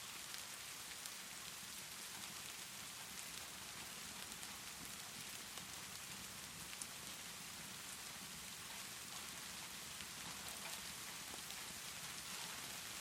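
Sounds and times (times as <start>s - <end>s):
small ticks and crackles: 0.0s - 13.0s
steady rainfall: 0.0s - 13.0s.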